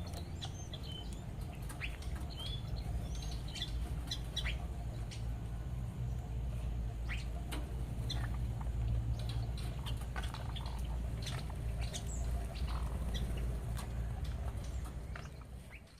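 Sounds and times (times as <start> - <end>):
songbirds chirping: 0.0 - 15.9
steady low hum: 0.0 - 15.9.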